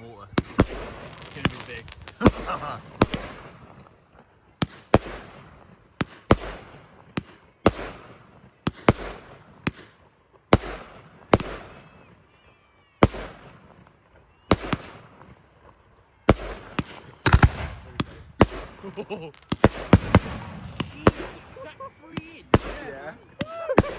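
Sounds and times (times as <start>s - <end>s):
rolling echo: 0.0s - 12.3s, 13.0s - 23.9s
fireworks bangs: 0.0s - 23.9s.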